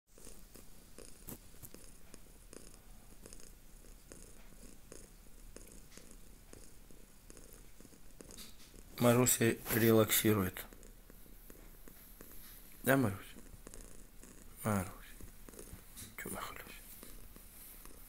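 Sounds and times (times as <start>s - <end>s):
cat purring: 0.1s - 18.0s.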